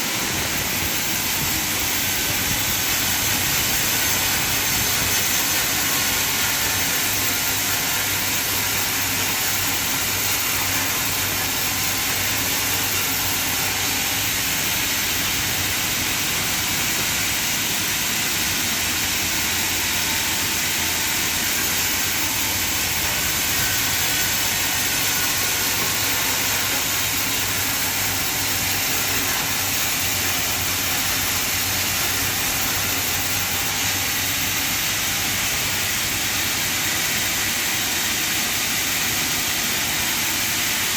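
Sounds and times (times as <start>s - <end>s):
sawmill machine hissing: 0.0s - 40.9s.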